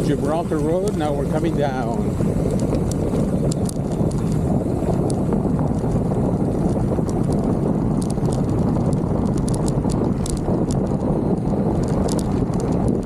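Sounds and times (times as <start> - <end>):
bike ticks and rattles: 0.0 - 13.0
wind buffeting microphone: 0.0 - 13.0.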